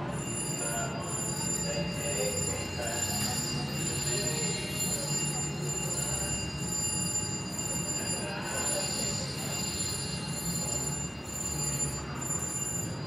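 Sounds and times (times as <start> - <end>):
slot machines ringing and jingles: 0.0 - 13.0.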